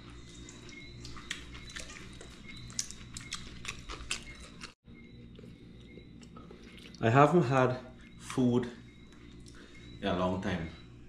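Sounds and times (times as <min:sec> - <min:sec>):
soft chewing with wet clicks: 0:00.0 - 0:07.1, 0:07.9 - 0:09.8
faint room hum: 0:00.0 - 0:11.0.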